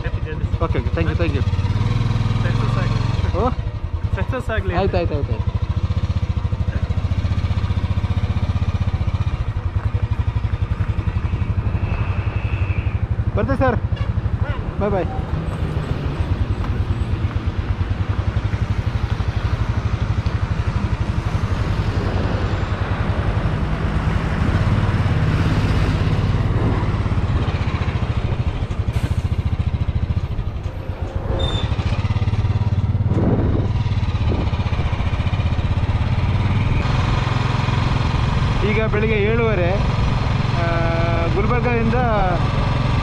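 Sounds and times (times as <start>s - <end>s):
motorcycle engine running: 0.0s - 15.2s, 16.4s - 43.0s.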